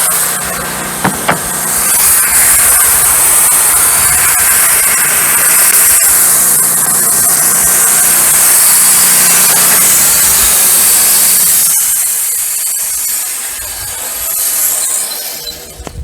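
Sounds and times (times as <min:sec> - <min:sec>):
band sawmill cutting a log: 0:00.0 - 0:15.6.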